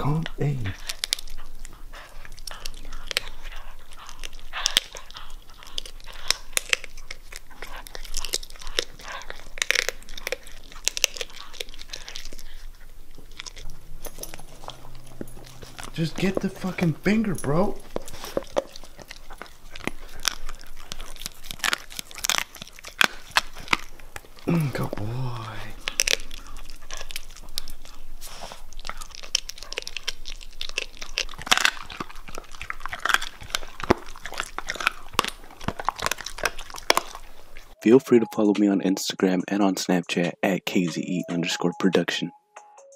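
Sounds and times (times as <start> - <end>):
dog crunching a treat: 0.0 - 37.8.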